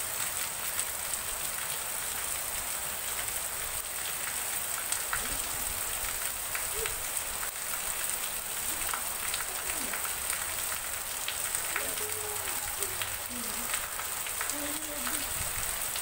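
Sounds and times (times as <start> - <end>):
heavy rain falling: 0.0 - 16.0
sharp ticks of raindrops: 0.0 - 16.0.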